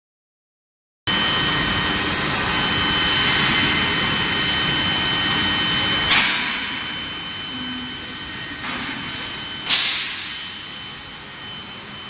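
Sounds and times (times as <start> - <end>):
high-pitched whines: 1.1 - 12.0
loud steady industrial machine noise: 1.1 - 12.0.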